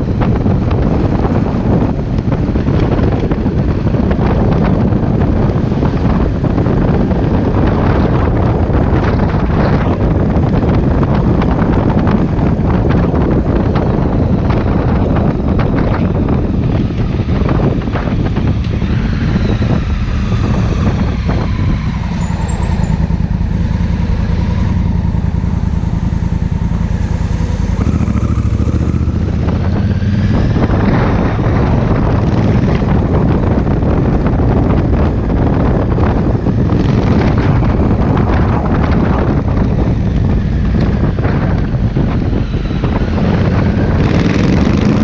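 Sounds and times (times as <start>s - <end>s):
motorcycle engine running: 0.0s - 45.0s
wind rushing over microphone: 0.0s - 45.0s.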